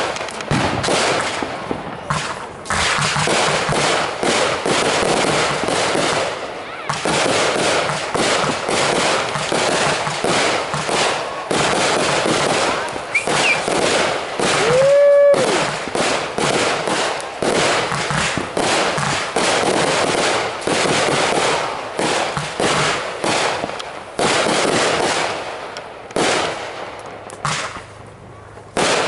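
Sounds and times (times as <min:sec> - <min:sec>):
fireworks bangs and crackle: 0:00.0 - 0:29.0.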